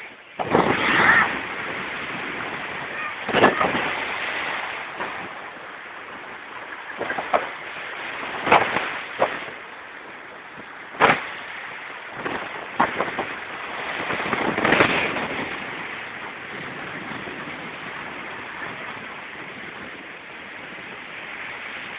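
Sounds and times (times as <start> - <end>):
surf washing up beach: 0.0 - 21.9.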